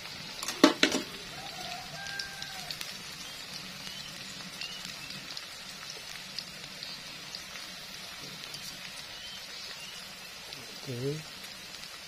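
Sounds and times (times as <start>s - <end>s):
food sizzling in a wok: 0.0s - 12.0s
oil popping: 0.0s - 12.0s.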